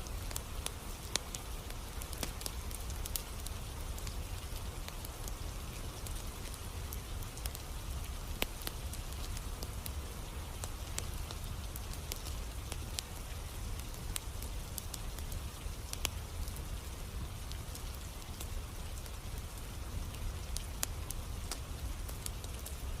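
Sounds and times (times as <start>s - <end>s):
campfire crackles and pops: 0.0s - 23.0s
rain hiss: 0.0s - 23.0s.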